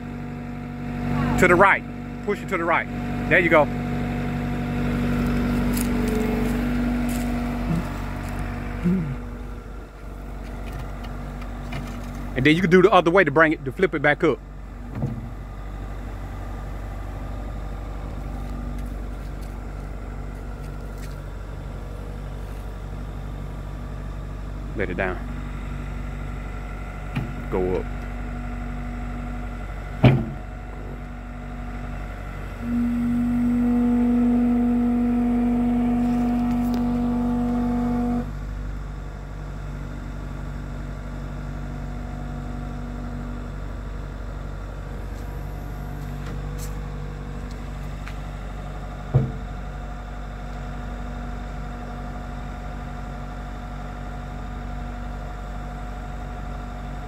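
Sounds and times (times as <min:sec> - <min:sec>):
diesel engine running: 0:00.0 - 0:57.0
hydraulics whining: 0:00.0 - 0:57.0.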